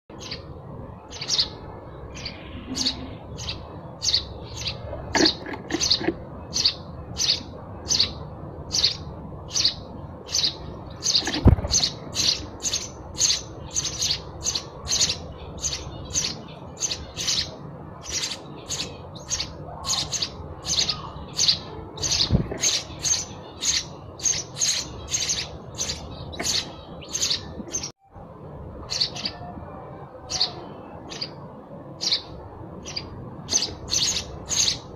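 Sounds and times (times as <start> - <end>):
house sparrow chirping: 0.1 - 28.0, 28.8 - 34.9.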